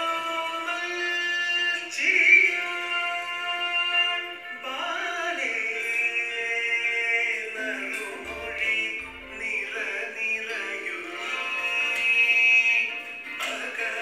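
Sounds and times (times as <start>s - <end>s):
classical-style song: 0.0s - 14.0s.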